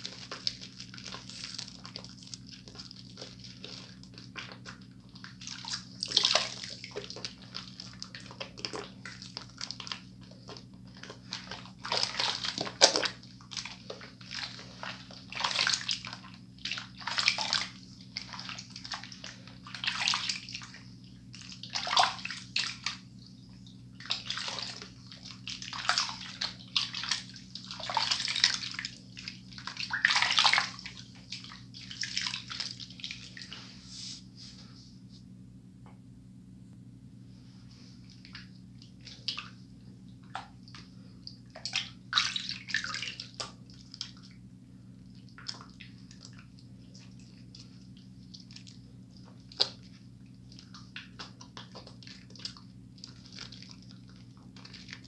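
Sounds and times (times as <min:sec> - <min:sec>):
hands splashing and rubbing: 0:00.0 - 0:34.7, 0:37.7 - 0:39.6, 0:40.2 - 0:44.4, 0:45.1 - 0:55.0
steady low hum: 0:00.0 - 0:55.0.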